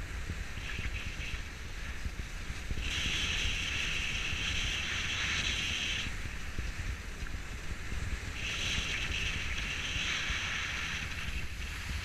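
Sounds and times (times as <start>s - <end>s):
wind rumble on microphone: 0.0s - 12.0s
skis scraping hard snow: 0.6s - 12.0s.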